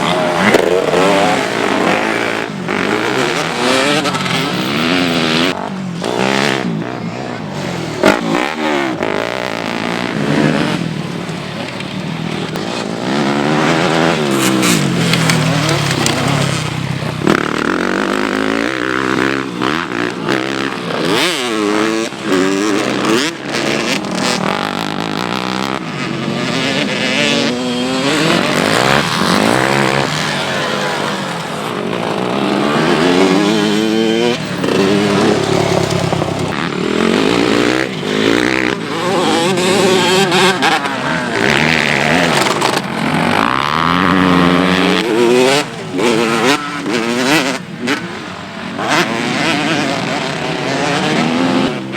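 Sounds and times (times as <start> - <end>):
motocross bike engines revving: 0.0 - 51.9.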